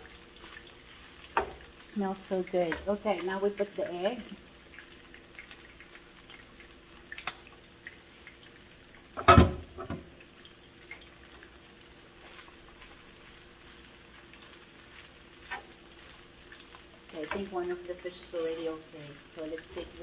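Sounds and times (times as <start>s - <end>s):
food sizzling in skillets: 0.0s - 20.0s.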